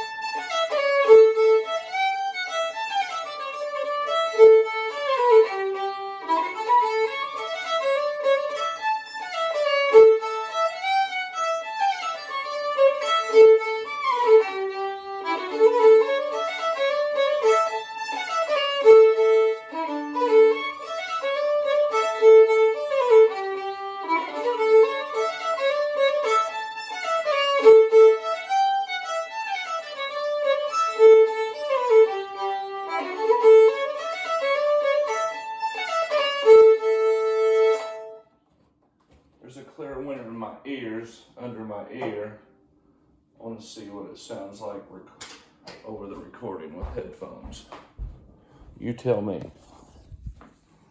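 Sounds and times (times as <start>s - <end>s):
solo fiddle playing lively tune: 0.0s - 38.3s, 45.8s - 48.7s.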